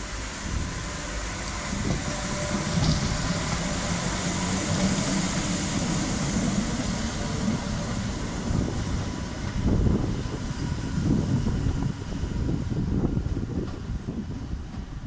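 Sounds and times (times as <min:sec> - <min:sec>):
electric locomotive motor hum: 0:00.0 - 0:15.0
train wheels rolling on rails: 0:00.0 - 0:15.0.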